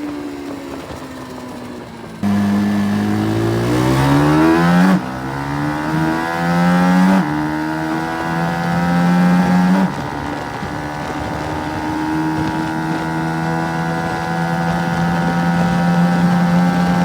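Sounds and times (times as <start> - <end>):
motorbike engine accelerating: 0.0 - 17.0.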